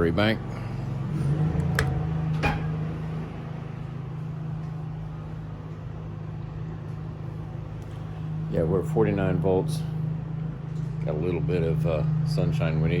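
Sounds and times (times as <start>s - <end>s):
generator humming: 0.0s - 13.0s.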